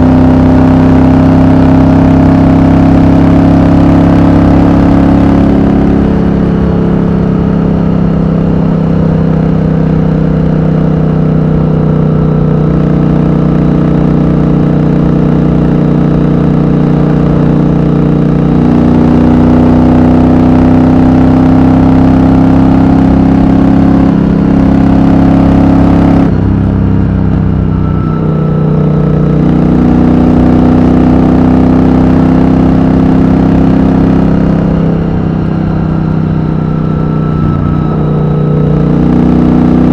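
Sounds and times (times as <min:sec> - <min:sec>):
motorcycle engine running at speed: 0:00.0 - 0:39.9.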